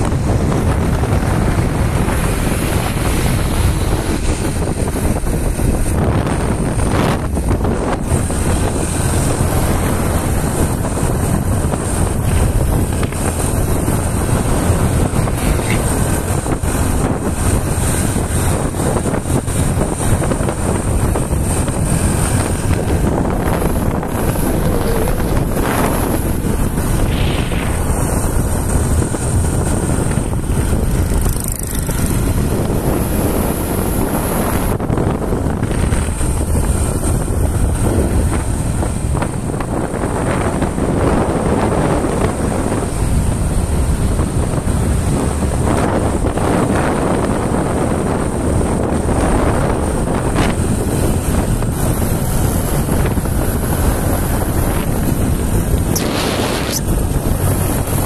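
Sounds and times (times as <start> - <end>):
vehicle and road noise: 0.0 - 58.0
wind buffeting microphone: 0.0 - 58.0.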